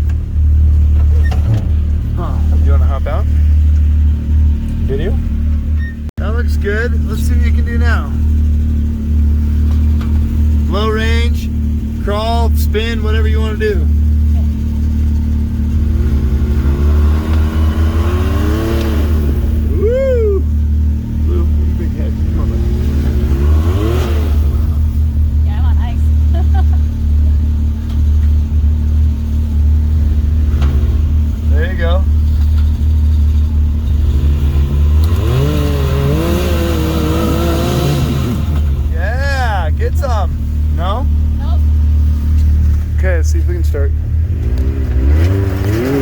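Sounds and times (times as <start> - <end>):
engine idling nearby: 0.0 - 18.0, 18.6 - 45.7
utility vehicle engine revving: 0.0 - 46.0.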